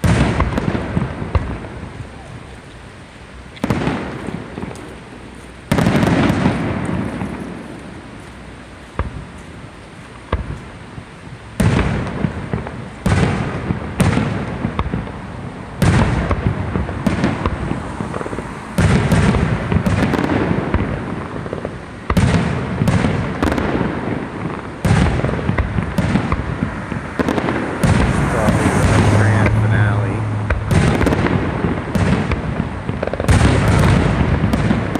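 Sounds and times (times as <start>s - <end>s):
fireworks bangs: 0.0s - 34.9s
rumble after fireworks bangs: 0.0s - 34.9s.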